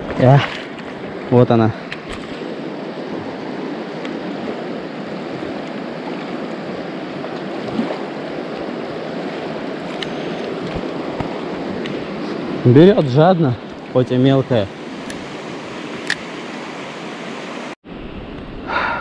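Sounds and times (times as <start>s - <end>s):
river rushing: 0.0s - 17.8s.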